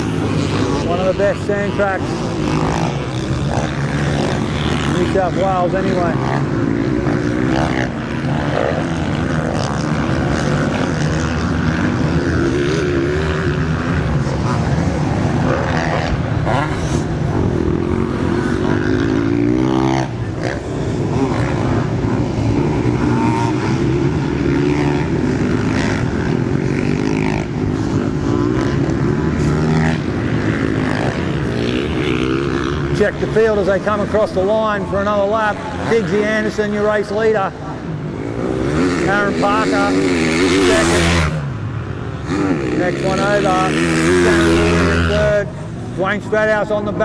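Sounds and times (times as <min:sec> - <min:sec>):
motocross bikes revving: 0:00.0 - 0:47.0.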